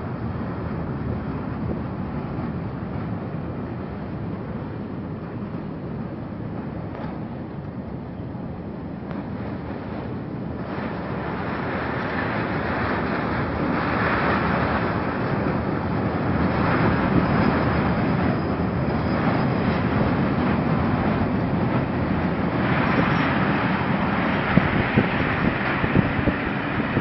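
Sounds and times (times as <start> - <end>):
freight train wheels rattling on rails: 1.2 - 27.0.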